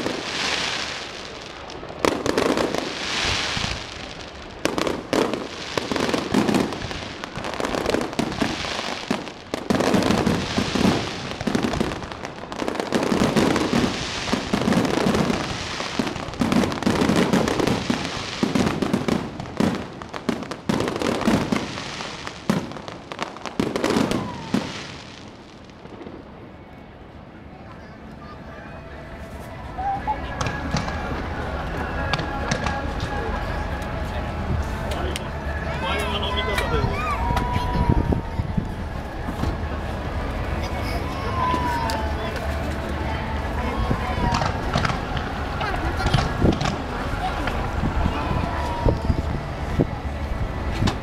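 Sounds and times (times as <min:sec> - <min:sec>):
crackling hiss of fireworks: 0:00.0 - 0:51.0.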